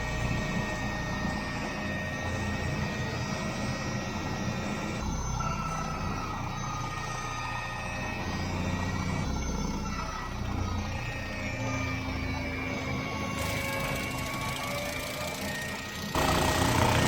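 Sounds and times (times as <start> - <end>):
brush cutter whine: 0.0 - 17.0
loader engine drone: 0.0 - 17.0.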